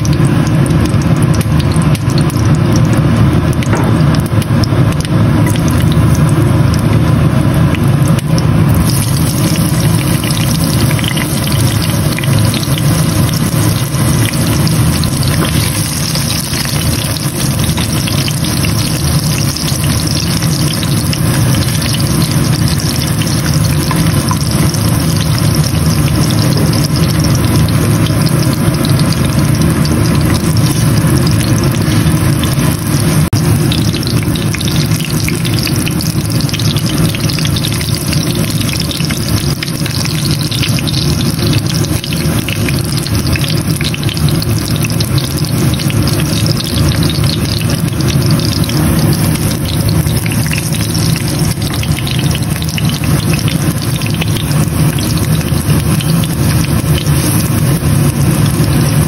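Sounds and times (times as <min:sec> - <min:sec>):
ginger sizzling in hot oil: 0:00.0 - 0:59.0
steady low hum: 0:00.0 - 0:59.0.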